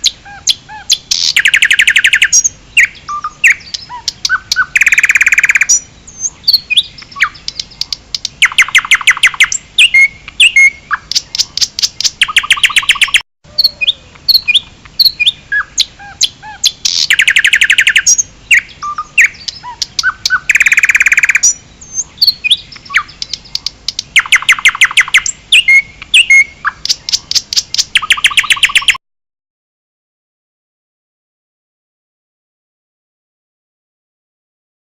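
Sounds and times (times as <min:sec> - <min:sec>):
songbird trills and chirps: 0:00.0 - 0:29.0.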